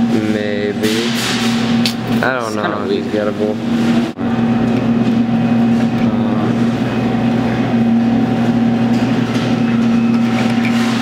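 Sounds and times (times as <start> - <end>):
claw machine electric hum: 0.0 - 11.0.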